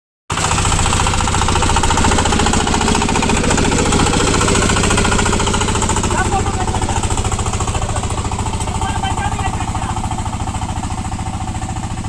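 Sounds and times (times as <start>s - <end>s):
diesel engine chugging: 0.3s - 12.0s.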